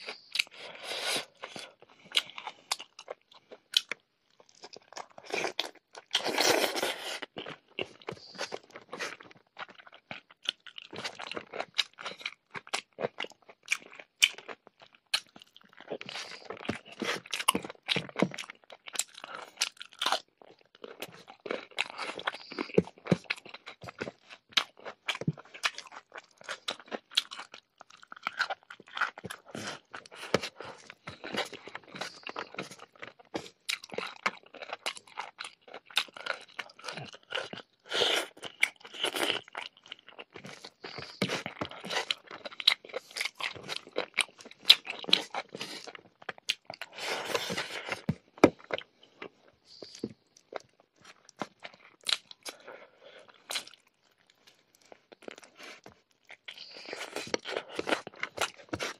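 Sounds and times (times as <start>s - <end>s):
person chewing and crunching food: 0.0s - 58.9s
fingers squishing rice and curry: 0.1s - 58.9s.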